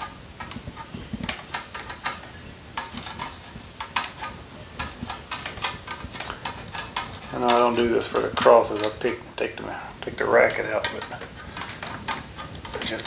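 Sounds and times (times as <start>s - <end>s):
awl clicking and scraping strings: 0.0s - 13.0s.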